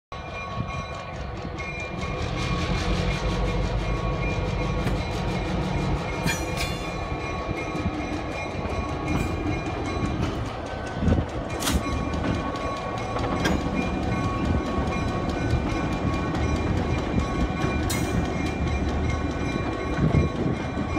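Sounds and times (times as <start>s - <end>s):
diesel locomotive engine rumbling: 0.1s - 20.9s
wheels clacking on rails: 0.2s - 20.9s.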